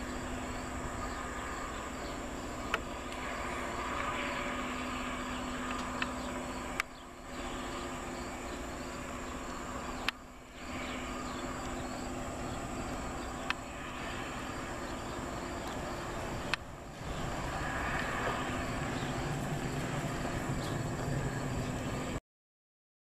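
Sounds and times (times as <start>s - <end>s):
insects chirping: 0.0s - 22.2s
rail grinding train humming: 0.0s - 22.2s.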